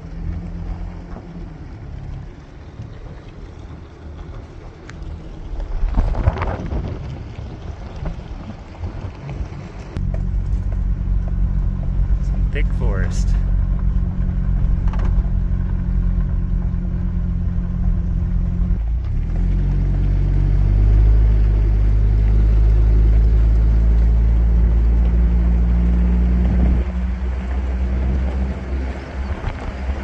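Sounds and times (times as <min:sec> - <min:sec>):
engine drone: 0:00.0 - 0:30.0
road rumble: 0:00.0 - 0:30.0.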